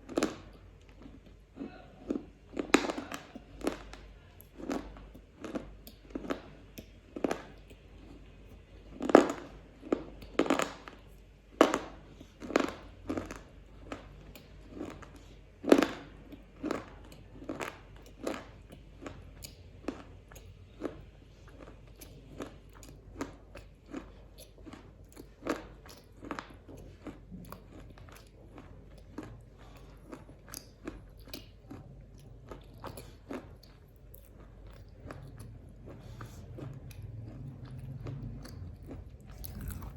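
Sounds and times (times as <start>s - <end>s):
biting and chewing crunchy wafer: 0.0s - 39.9s.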